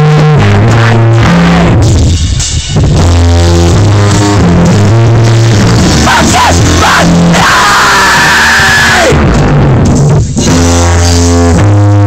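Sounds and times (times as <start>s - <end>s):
live rock band playing: 0.0s - 7.5s, 9.1s - 12.0s.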